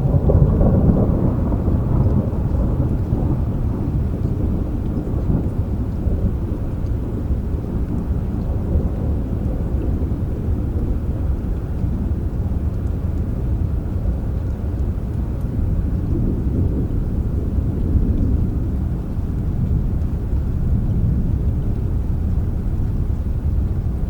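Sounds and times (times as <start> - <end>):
soft rain: 0.0 - 24.0
thunder rumbling: 0.0 - 24.0.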